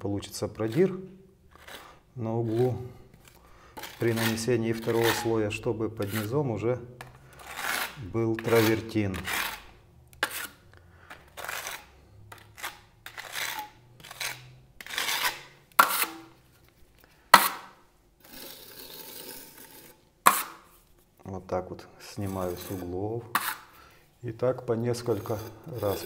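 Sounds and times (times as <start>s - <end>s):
spatula scraping wet plaster: 0.3s - 20.8s, 22.0s - 26.0s.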